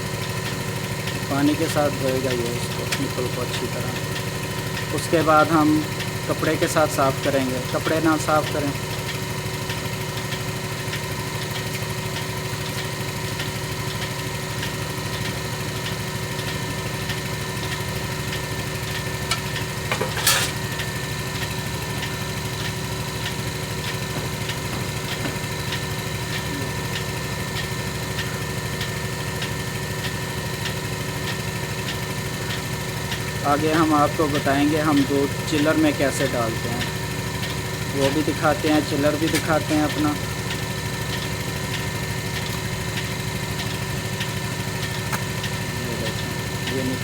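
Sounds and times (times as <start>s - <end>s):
faint regular ticking: 0.0s - 47.0s
vacuum pump motor humming: 0.0s - 47.0s.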